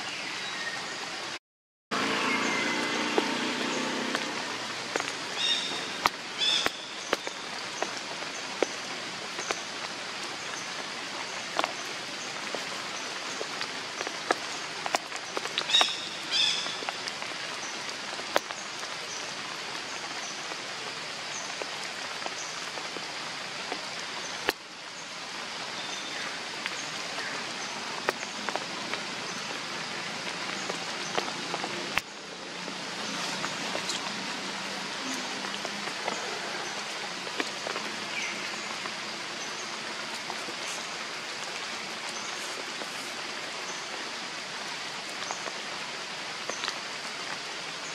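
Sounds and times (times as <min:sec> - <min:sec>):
forest background hiss: 0:00.0 - 0:01.4, 0:02.0 - 0:47.9.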